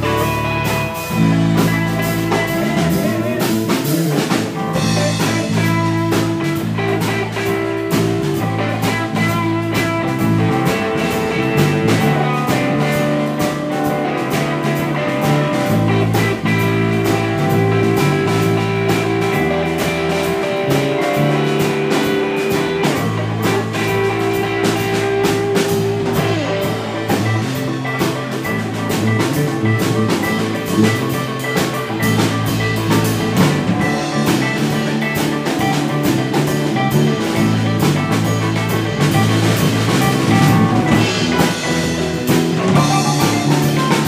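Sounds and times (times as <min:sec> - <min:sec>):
blues-rock band jam: 0:00.0 - 0:44.0
drum and cymbal hits: 0:00.0 - 0:44.0.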